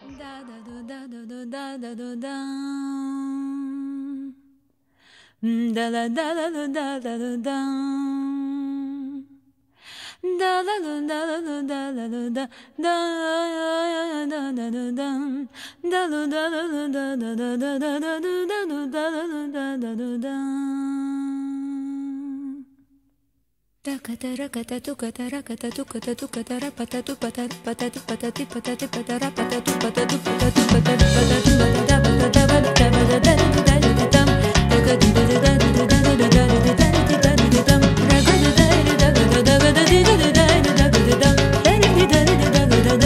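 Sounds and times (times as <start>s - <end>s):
woman singing wordless vocalise: 0.0s - 4.6s, 5.2s - 9.4s, 10.0s - 23.0s, 23.8s - 43.0s.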